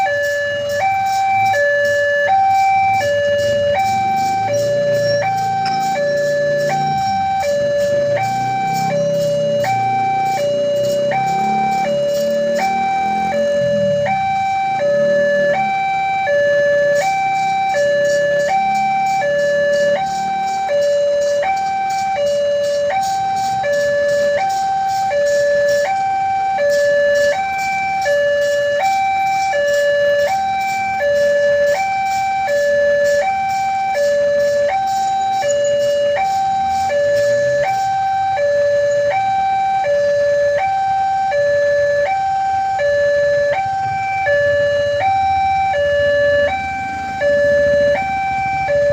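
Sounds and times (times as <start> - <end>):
two-tone crossing alarm: 0.0 - 48.9.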